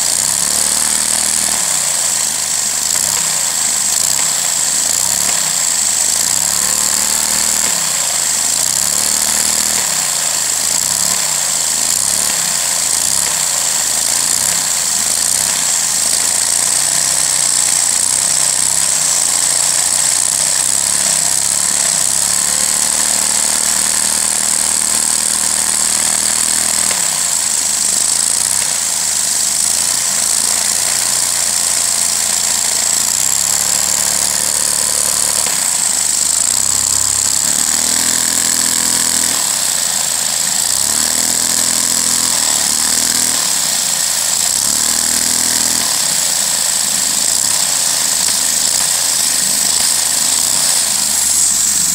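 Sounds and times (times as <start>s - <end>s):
toy vacuum engine hissing: 0.0s - 51.9s.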